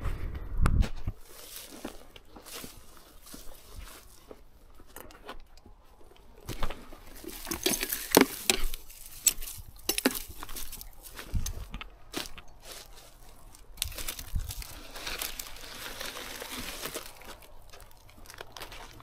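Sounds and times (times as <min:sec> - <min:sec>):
crunching and rustling in dry debris: 0:00.8 - 0:19.0.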